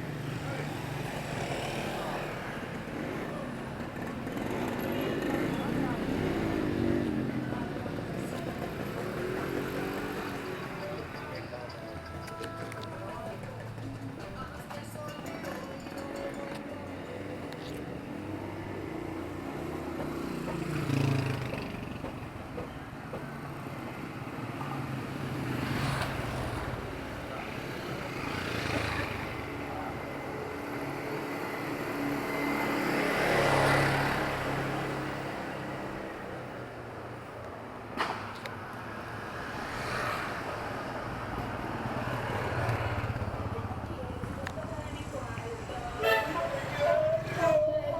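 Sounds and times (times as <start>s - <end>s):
vehicles passing: 0.0s - 47.9s.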